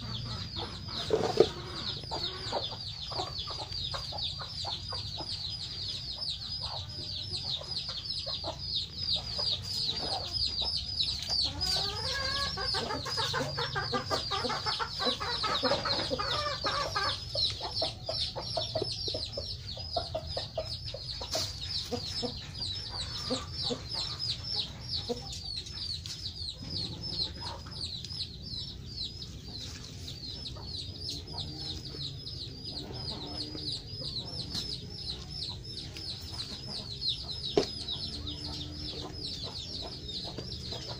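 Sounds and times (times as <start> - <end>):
chickens clucking: 0.0 - 40.9
rapid high peeping calls: 0.0 - 40.9.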